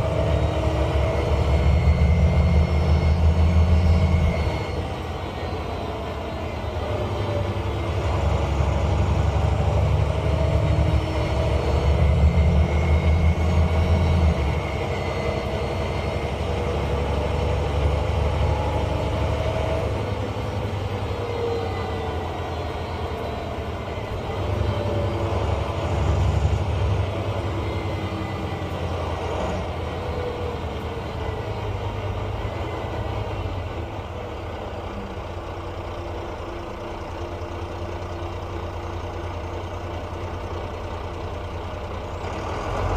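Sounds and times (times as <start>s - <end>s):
bus diesel engine rumble: 0.0s - 42.9s.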